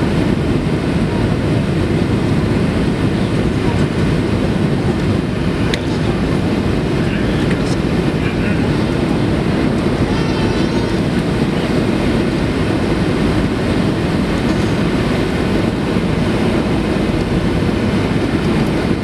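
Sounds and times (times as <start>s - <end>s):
air rushing over wing: 0.0s - 19.0s
jet engines: 0.0s - 19.0s.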